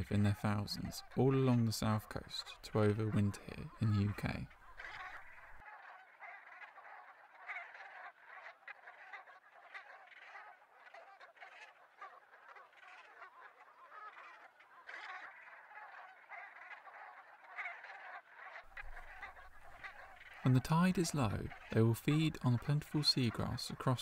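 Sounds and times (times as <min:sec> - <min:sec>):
flock of geese calling: 0:00.0 - 0:24.0.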